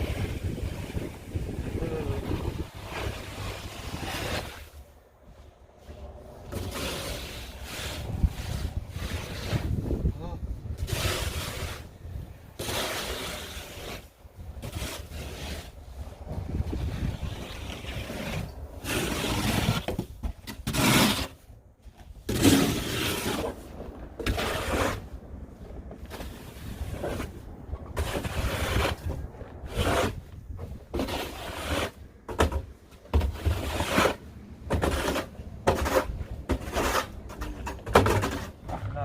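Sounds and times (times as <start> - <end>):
snow shovel scraping snow: 0.0 - 4.8, 5.9 - 10.1, 10.8 - 21.5, 22.1 - 25.1, 25.7 - 27.4, 28.0 - 38.6.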